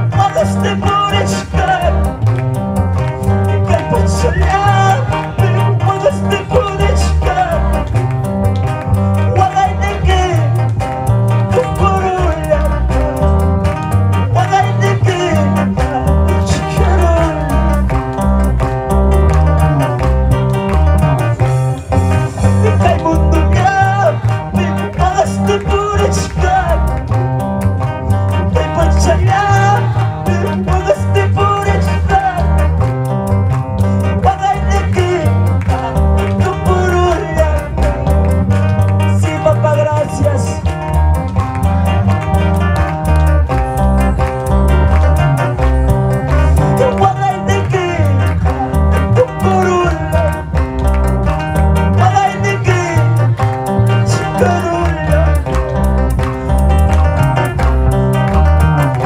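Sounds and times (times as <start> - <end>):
electric bass guitar: 0.0 - 59.0
live band music: 0.0 - 59.0.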